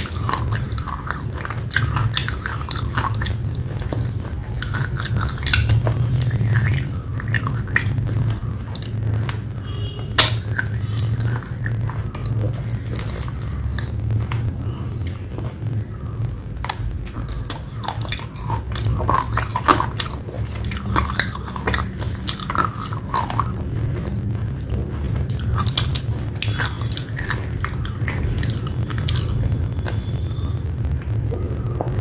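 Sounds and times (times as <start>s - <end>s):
person chewing clay paste: 0.0s - 32.0s
steady low hum: 0.0s - 32.0s.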